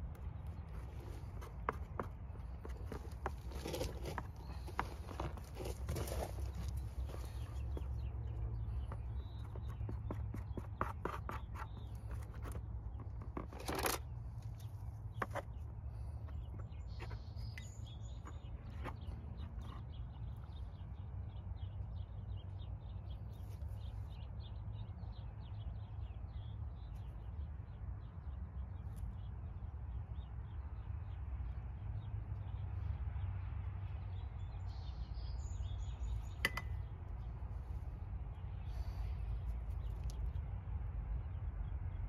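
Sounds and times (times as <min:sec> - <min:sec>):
birds chirping: 0:00.0 - 0:33.0, 0:33.8 - 0:40.6.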